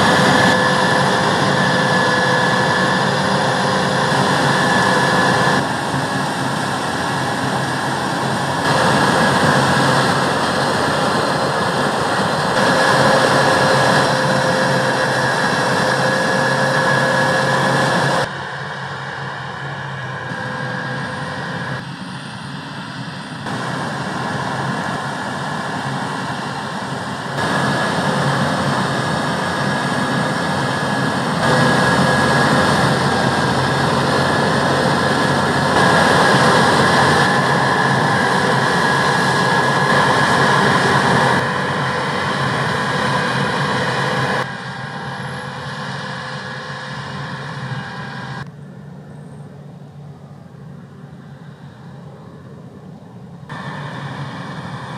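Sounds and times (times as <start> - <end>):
harvest machinery engines running: 0.0 - 50.4
faint steady whine: 0.0 - 54.9.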